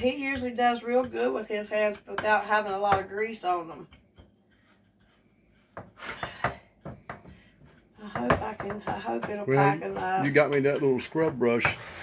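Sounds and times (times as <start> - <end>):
measuring cup knocking and scraping: 0.0 - 12.0.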